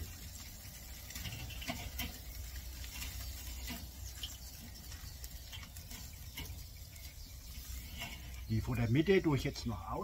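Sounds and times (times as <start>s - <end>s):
fish grilling crackling: 0.0s - 10.0s.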